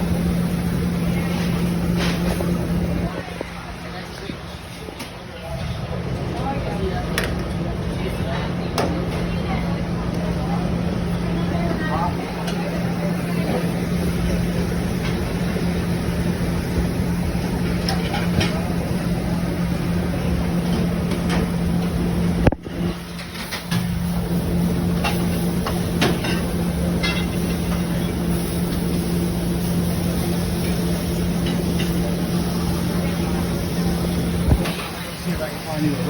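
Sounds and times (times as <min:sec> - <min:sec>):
exhaust hood fans humming: 0:00.0 - 0:36.0.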